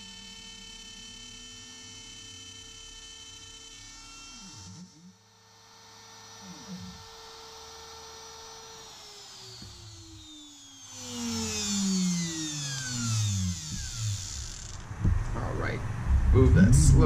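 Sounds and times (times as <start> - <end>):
spindle motor winding down: 0.0 - 15.4.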